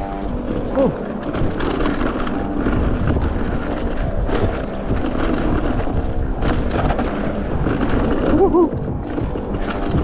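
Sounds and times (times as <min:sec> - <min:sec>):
bike rattles and knocks: 0:00.0 - 0:10.0
bike rumbling on rough trail: 0:00.0 - 0:10.0
wind buffeting microphone: 0:00.0 - 0:10.0.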